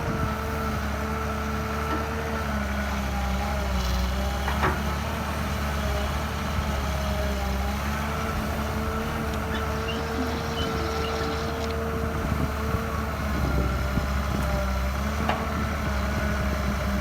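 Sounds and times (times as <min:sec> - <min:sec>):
diesel machinery rumbling: 0:00.0 - 0:17.0.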